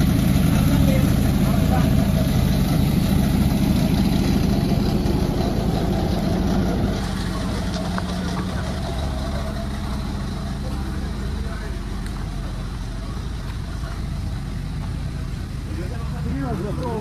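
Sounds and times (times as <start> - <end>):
engine running at low speed: 0.0 - 17.0.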